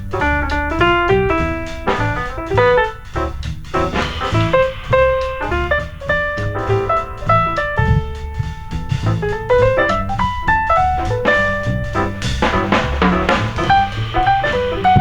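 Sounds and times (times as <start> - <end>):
jazz piano with bass and drums: 0.0 - 15.0.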